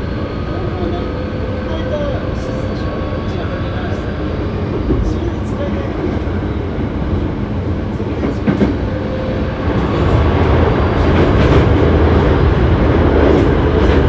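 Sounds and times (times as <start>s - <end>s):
train wheels and motors rumbling: 0.0s - 14.0s.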